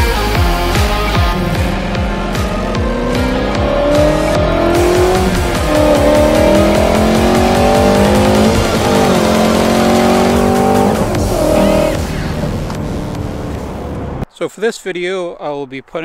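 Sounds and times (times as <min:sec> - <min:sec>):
car engine accelerating hard: 0:00.5 - 0:14.2.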